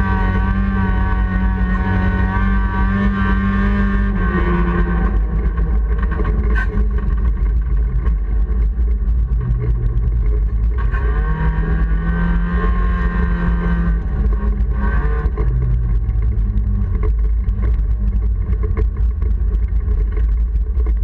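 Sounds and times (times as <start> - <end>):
race car engine at high revs: 0.0 - 21.0.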